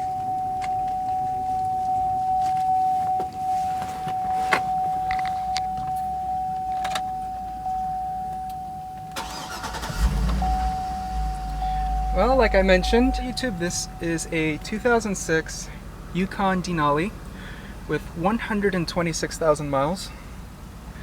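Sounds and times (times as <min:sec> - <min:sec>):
car warning chime: 0:00.0 - 0:17.4.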